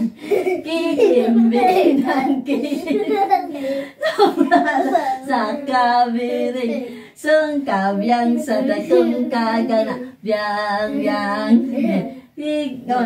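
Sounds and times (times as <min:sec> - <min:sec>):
woman and children singing: 0:00.0 - 0:03.1, 0:04.4 - 0:13.0.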